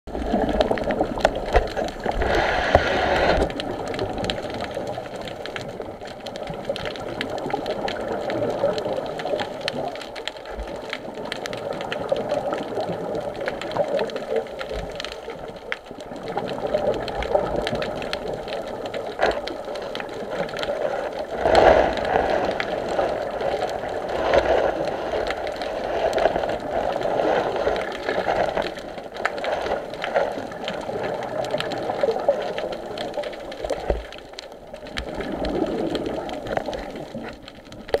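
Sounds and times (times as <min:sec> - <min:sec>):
muffled underwater rushing: 0:00.1 - 0:38.0.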